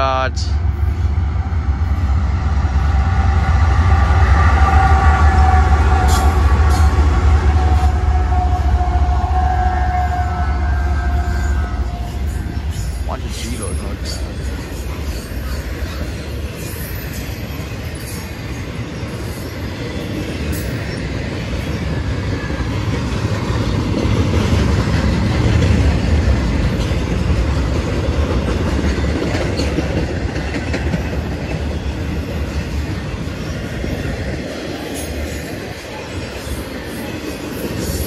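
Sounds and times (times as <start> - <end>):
freight train wheels clattering: 0.4 - 38.0.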